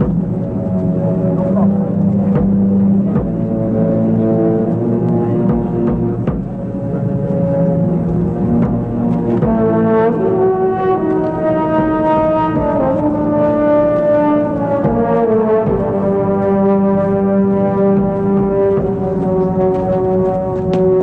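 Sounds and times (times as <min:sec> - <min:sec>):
orchestral brass chords: 0:00.0 - 0:21.0
soft percussion strokes: 0:00.0 - 0:21.0.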